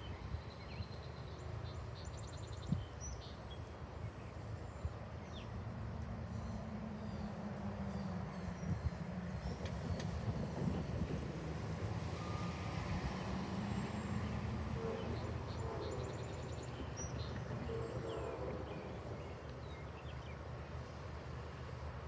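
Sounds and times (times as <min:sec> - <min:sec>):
freight train rumbling: 0:00.0 - 0:22.0.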